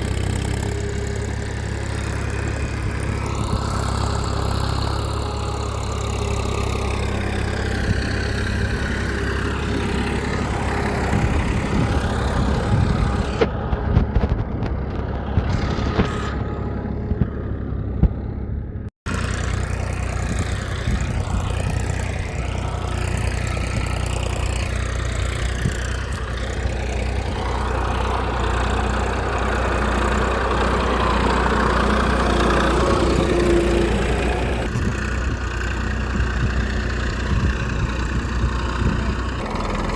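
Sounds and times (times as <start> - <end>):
small engine idling: 0.0 - 39.9.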